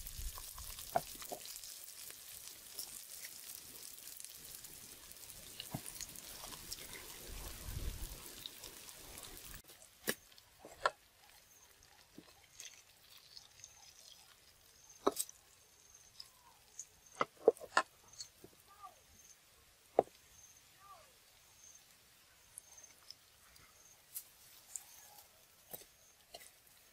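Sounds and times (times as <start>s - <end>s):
food sizzling in a wok: 0.0s - 23.4s, 24.1s - 26.9s.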